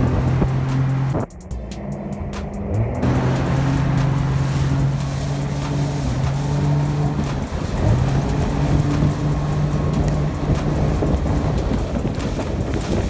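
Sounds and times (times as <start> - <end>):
jet ski engine droning: 0.0 - 13.0
rushing wind and water: 0.0 - 13.0.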